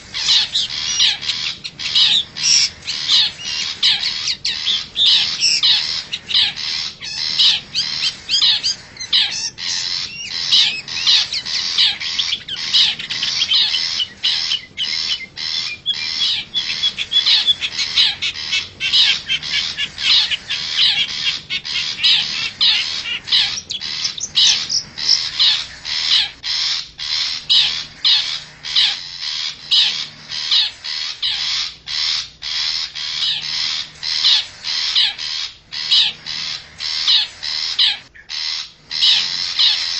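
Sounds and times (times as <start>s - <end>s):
shrike rasping squawks: 0.0s - 39.9s.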